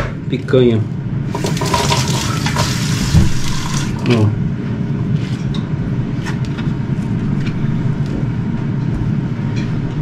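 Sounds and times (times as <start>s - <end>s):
air fryer whirring hum: 0.0s - 10.0s.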